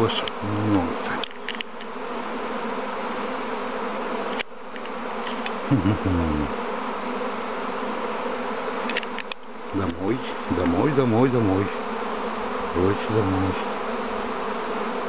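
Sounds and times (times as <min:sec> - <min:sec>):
honeybee swarm humming: 0:00.0 - 0:15.0.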